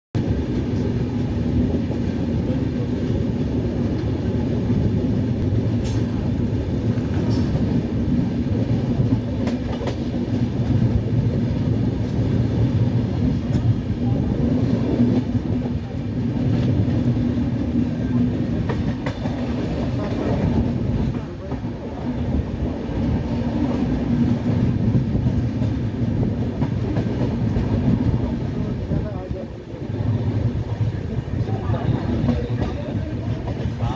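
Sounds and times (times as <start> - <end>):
train wheels rumbling: 0.2 - 33.9.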